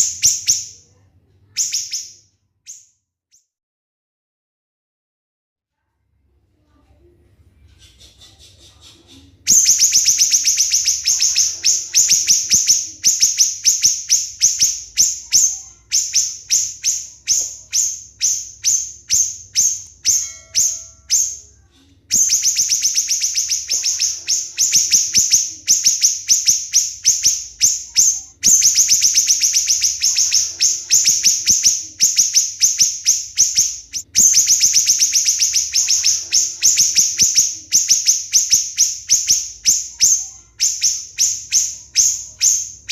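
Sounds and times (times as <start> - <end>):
bird singing shrill rapid notes: 0.0 - 0.8, 1.6 - 2.9, 9.5 - 42.9.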